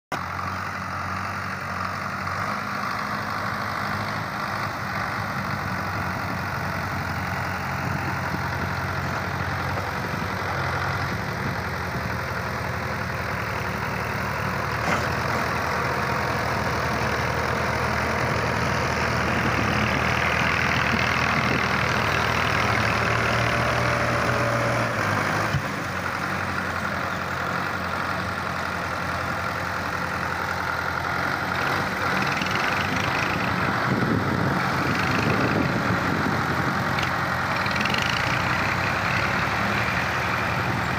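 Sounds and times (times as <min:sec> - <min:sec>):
tractor diesel engine under load: 0:00.1 - 0:40.9.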